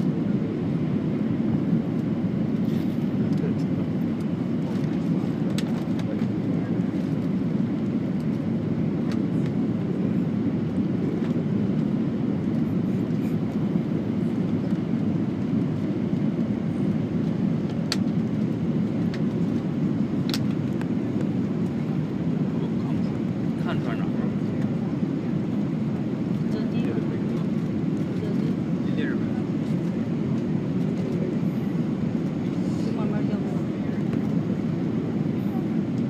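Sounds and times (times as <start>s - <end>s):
airliner cabin engine noise: 0.0s - 36.0s.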